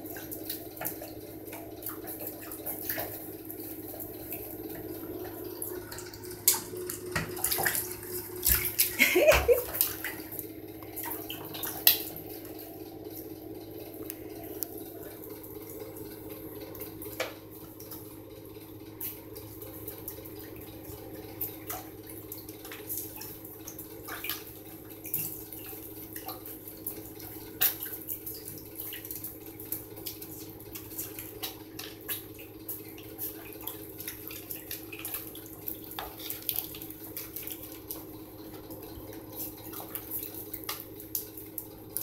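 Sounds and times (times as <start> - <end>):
steady low hum: 0.0 - 42.0
water dripping and splashing: 0.0 - 42.0.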